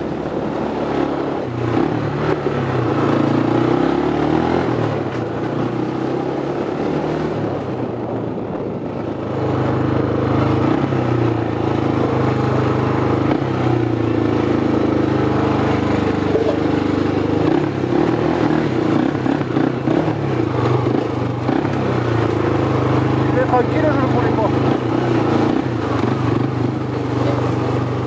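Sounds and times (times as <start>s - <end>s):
quad bike engine running: 0.0s - 28.0s.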